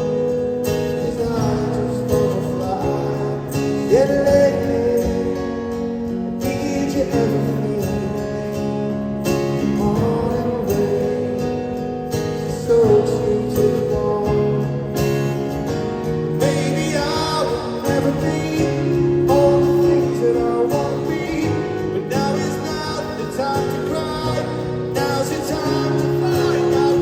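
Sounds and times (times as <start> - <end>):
guitars: 0.0 - 27.0
live rock band playing: 0.0 - 27.0
person singing: 0.8 - 15.3, 16.2 - 27.0.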